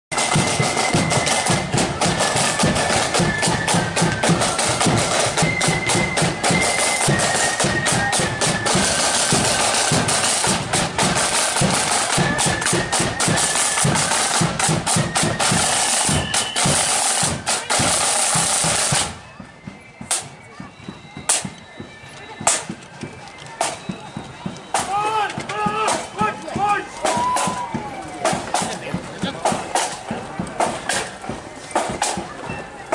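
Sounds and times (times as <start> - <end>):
rapid snare drum: 0.1 - 19.2, 24.7 - 32.3
shrill flutes playing melody: 0.2 - 28.8, 30.9 - 32.9.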